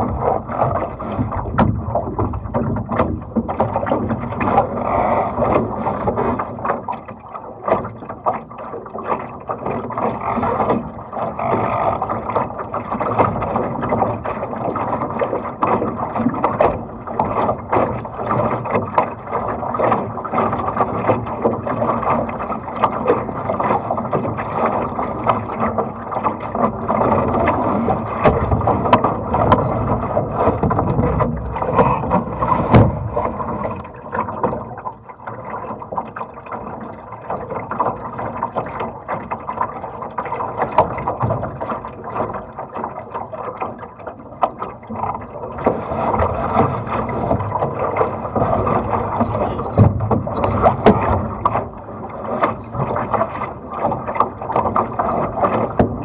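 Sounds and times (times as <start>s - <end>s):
water rushing along a hull: 0.0s - 56.0s.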